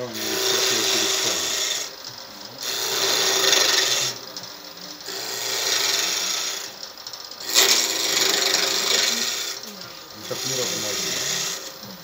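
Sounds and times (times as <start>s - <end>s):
lathe tool scraping wood: 0.0s - 12.0s.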